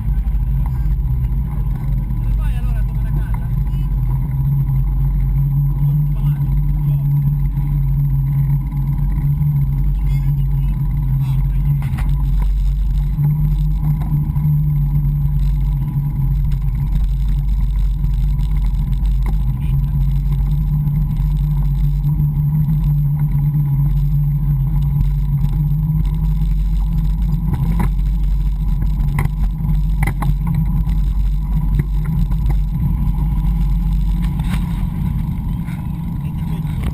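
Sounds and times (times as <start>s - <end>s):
bicycle rolling on asphalt: 0.0s - 36.9s.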